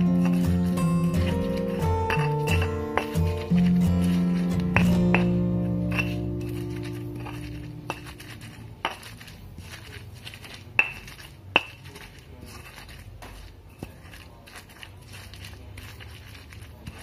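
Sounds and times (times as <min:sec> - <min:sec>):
kitchenware clinking: 0:00.0 - 0:16.2.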